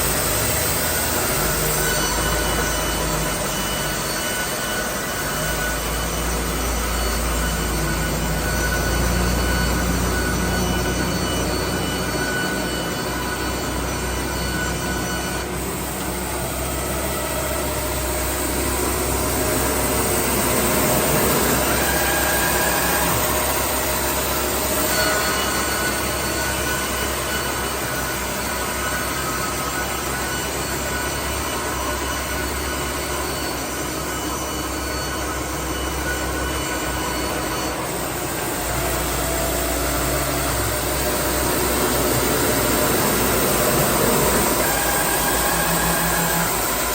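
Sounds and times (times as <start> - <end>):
band sawmill drone: 0.0 - 46.9
high saw blade whine: 0.0 - 46.9.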